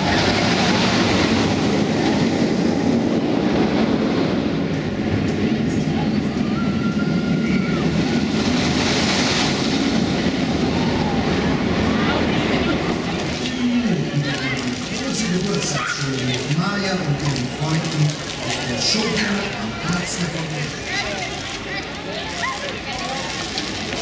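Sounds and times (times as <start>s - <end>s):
roller coaster rumbling on track: 0.0s - 24.0s.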